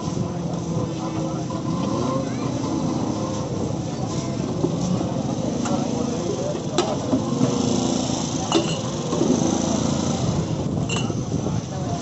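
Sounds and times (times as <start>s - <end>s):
faint voices: 0.0s - 12.0s
street traffic: 0.0s - 12.0s.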